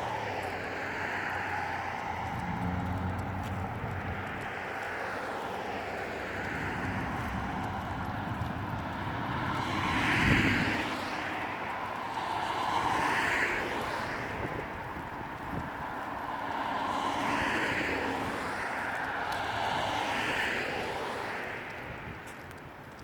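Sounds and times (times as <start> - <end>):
vehicle passing by: 0.0 - 22.0
steady traffic hum: 0.0 - 23.0.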